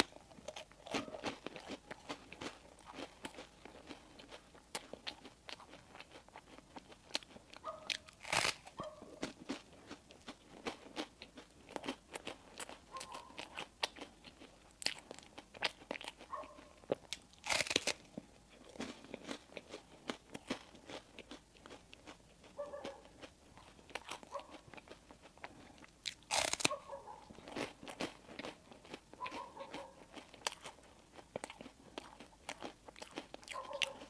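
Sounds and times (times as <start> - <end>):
chewing and biting bread: 0.0 - 34.0.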